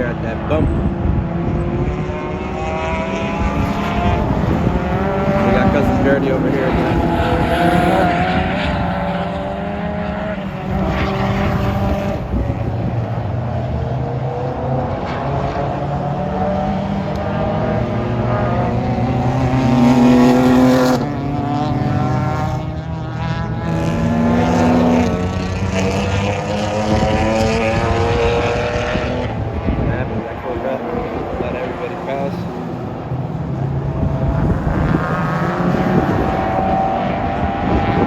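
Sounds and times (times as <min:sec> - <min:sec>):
race car engine revving: 0:00.0 - 0:38.0.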